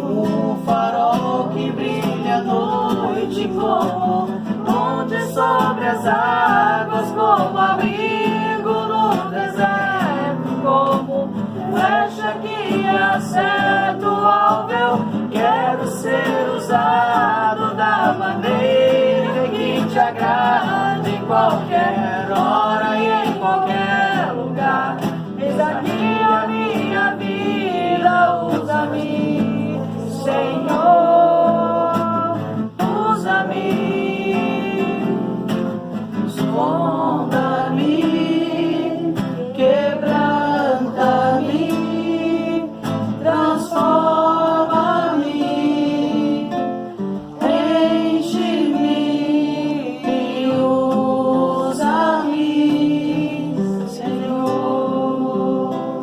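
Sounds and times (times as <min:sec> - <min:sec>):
strummed acoustic guitar: 0:00.0 - 0:56.0
voices singing worship song: 0:00.0 - 0:56.0.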